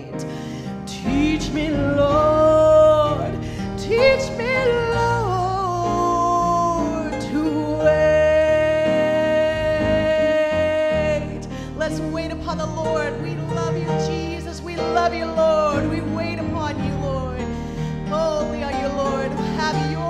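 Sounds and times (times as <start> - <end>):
guitar: 0.0 - 20.0
keyboard: 0.0 - 20.0
woman singing: 0.0 - 20.0.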